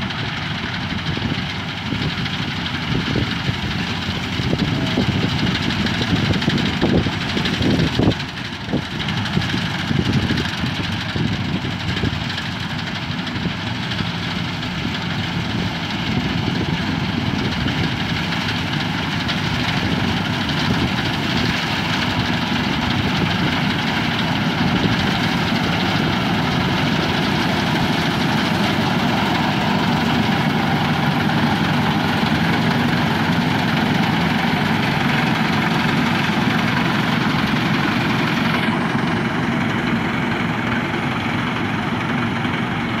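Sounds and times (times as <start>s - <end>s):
combine harvester running: 0.0s - 43.0s.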